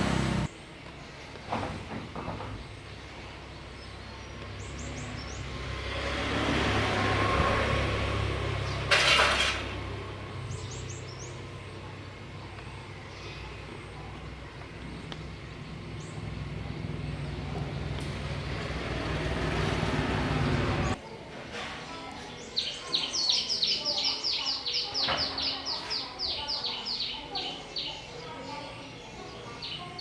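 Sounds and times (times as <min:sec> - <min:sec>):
faint birds chirping: 0:00.0 - 0:30.0.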